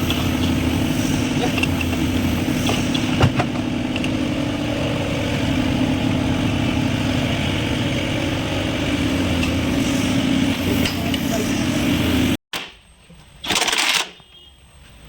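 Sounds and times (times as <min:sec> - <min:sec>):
engine idling: 0:00.0 - 0:12.4.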